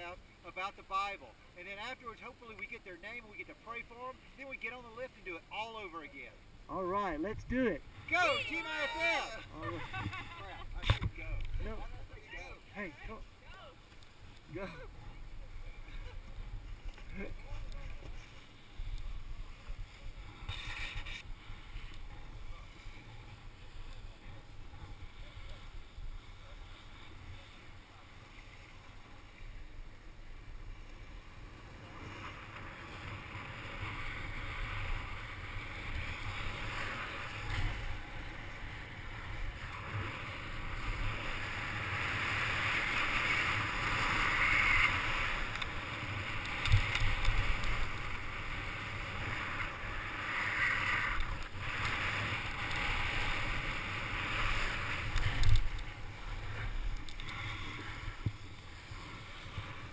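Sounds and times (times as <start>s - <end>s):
skis scraping over packed snow: 0.0s - 59.9s.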